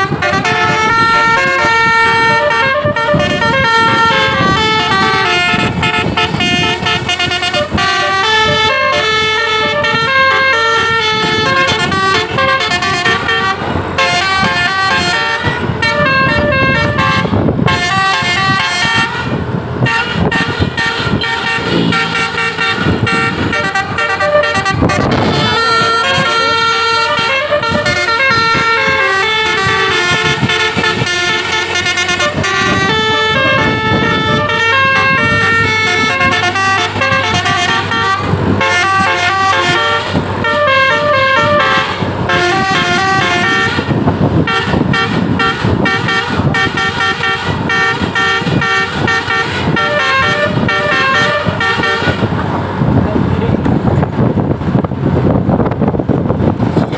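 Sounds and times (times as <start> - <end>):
musical air horn playing tune: 0.0 - 52.4.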